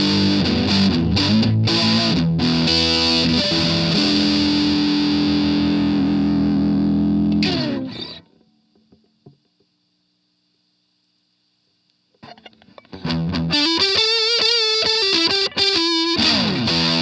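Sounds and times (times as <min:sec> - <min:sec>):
distorted electric guitar chords: 0:00.0 - 0:09.4, 0:12.2 - 0:17.0
faint amp hum: 0:00.0 - 0:17.0.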